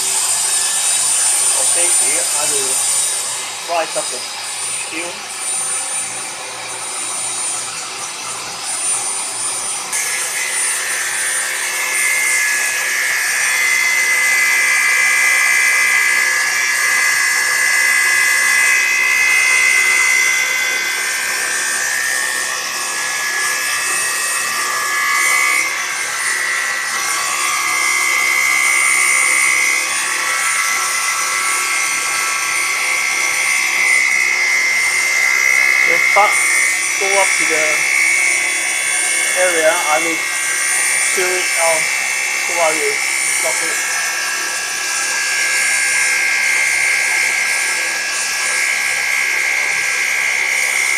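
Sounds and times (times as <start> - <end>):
grinding screech on metal: 0.0 - 46.8
angle grinder whine: 0.0 - 50.9.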